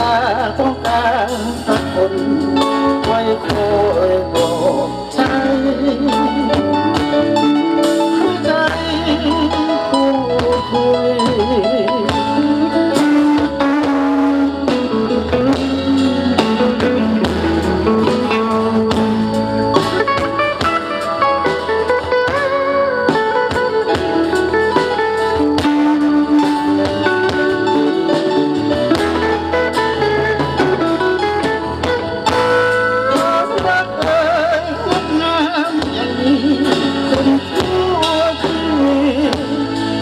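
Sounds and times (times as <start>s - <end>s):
bass: 0.0s - 40.0s
drum kit steady beat: 0.0s - 40.0s
guitar: 0.0s - 40.0s.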